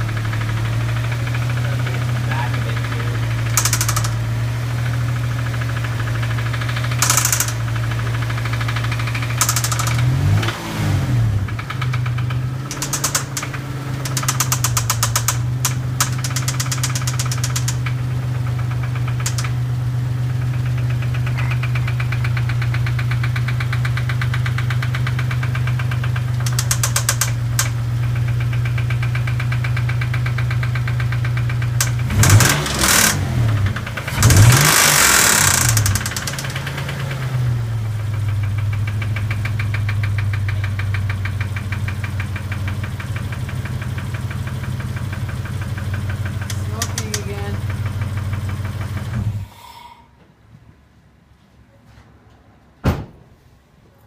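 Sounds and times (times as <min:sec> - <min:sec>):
car engine idling with knock: 0:00.0 - 0:49.6.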